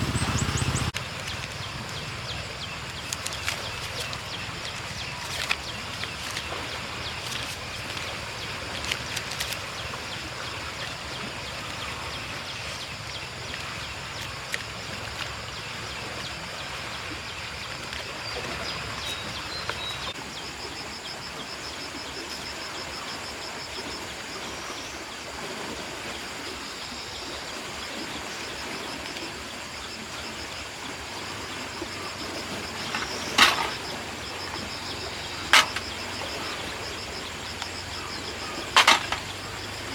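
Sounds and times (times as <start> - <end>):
high pulsing insect chirr: 0.0 - 39.9
steady outdoor hiss: 0.0 - 39.9.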